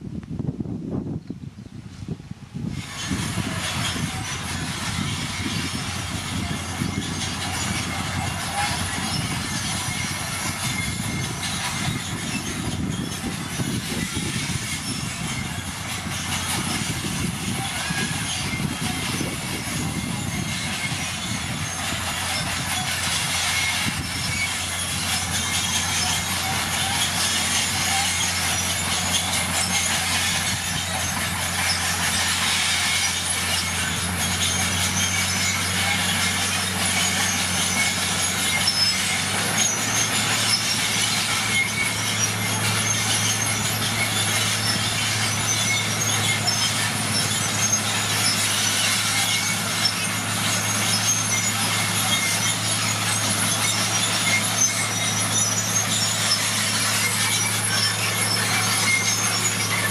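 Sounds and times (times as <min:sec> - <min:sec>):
bulldozer diesel engine hum: 0:00.0 - 0:59.9
metallic clatter and squeal: 0:00.1 - 0:59.9.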